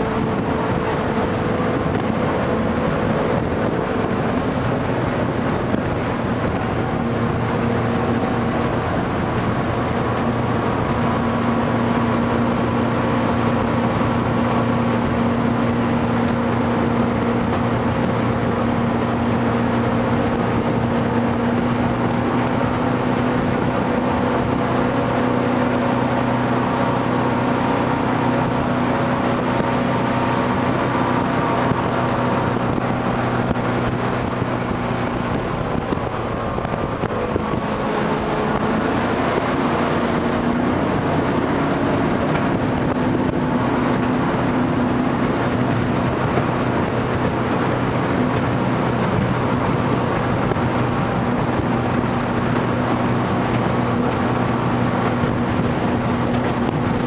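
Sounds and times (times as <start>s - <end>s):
boat engine running: 0.0s - 57.0s
rushing water and wind: 0.0s - 57.0s.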